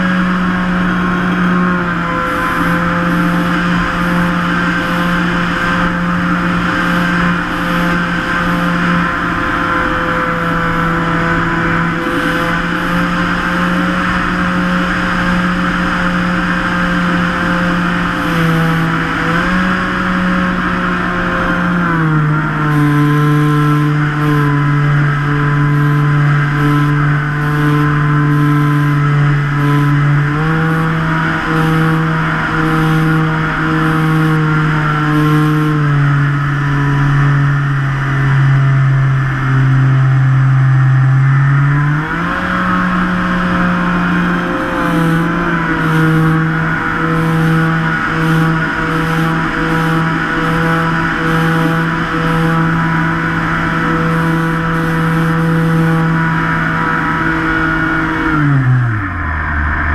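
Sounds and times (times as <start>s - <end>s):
electric motors and propellers whining: 0.0s - 59.9s.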